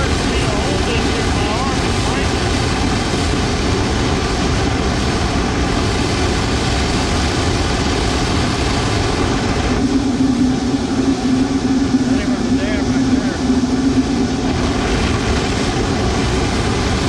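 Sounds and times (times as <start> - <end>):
furnace burner blast: 0.0 - 17.0
steady low hum: 0.0 - 17.0.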